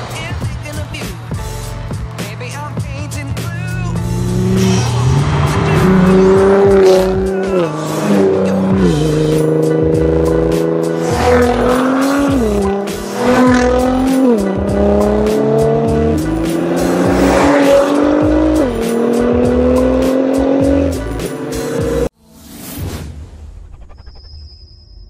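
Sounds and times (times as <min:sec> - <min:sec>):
car engine accelerating hard: 0:00.0 - 0:22.1
music with steady beat: 0:00.0 - 0:22.1.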